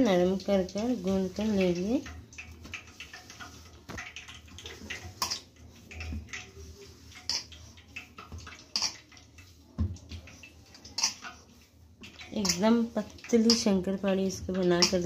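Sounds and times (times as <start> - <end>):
dough knocking against metal bowl: 0.0 - 15.0
dough squelching under hand: 0.0 - 15.0.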